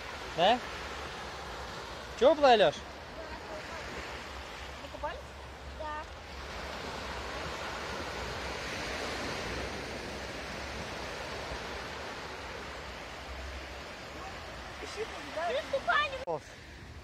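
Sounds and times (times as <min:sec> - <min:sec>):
small waves on sandy shore: 0:00.0 - 0:17.0.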